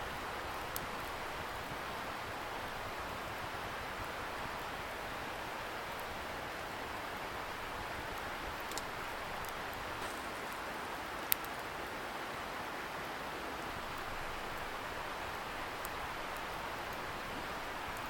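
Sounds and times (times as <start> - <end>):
campfire crackling and popping: 0.0 - 18.0
distant river hiss: 0.0 - 18.0.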